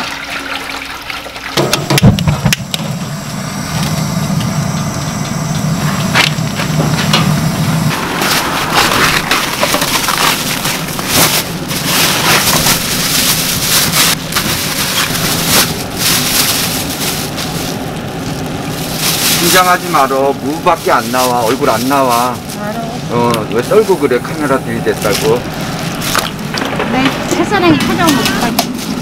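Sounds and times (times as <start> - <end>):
gas burner humming: 1.4 - 29.0
plastic gloves crinkling: 5.4 - 29.0.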